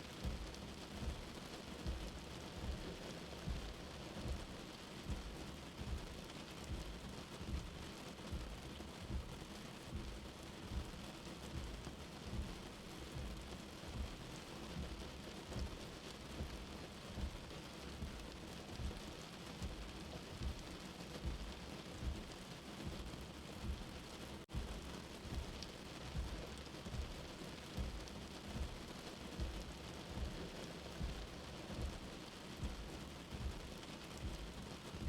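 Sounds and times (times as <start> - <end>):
steady rain hissing: 0.0 - 35.0
low heartbeat thumping: 0.2 - 35.0.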